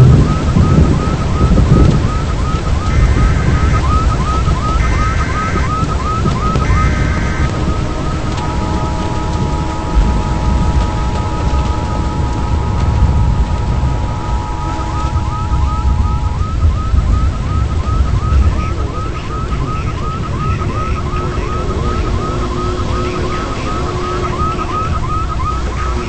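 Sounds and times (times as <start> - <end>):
heavy wind rumble: 0.0 - 26.0
steady two-note tone: 0.0 - 26.0.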